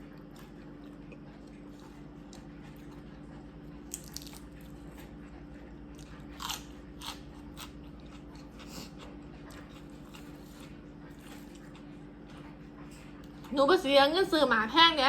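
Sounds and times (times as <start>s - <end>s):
crunchy chewing of food: 0.0s - 14.0s.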